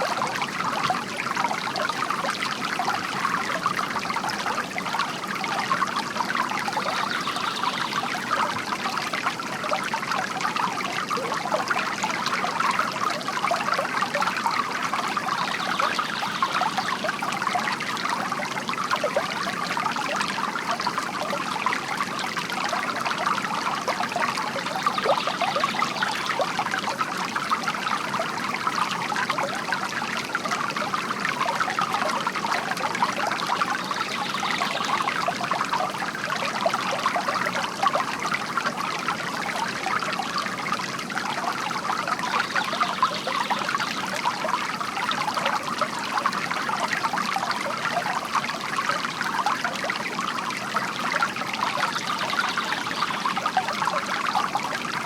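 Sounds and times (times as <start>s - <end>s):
bamboo water fountain trickling: 0.0s - 55.0s.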